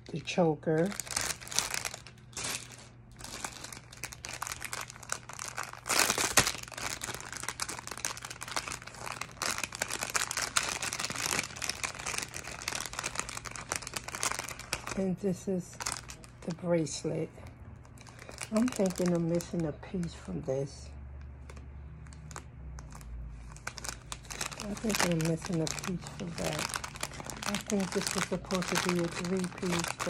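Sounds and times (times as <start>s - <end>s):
plastic bags crinkling: 0.0s - 17.0s, 17.8s - 20.4s, 21.5s - 30.0s.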